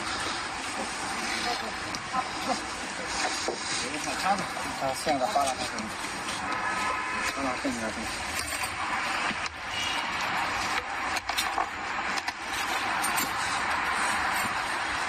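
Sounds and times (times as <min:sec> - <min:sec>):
rushing work site noise: 0:00.0 - 0:15.0.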